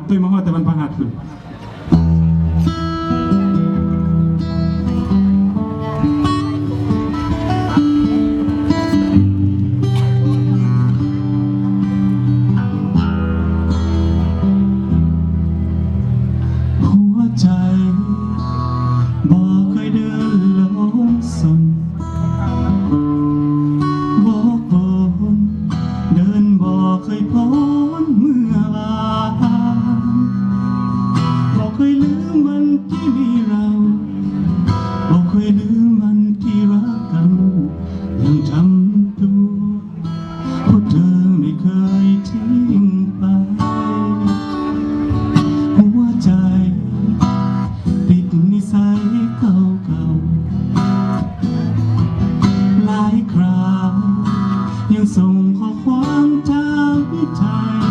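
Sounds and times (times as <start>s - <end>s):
strummed acoustic guitar: 1.1s - 57.9s.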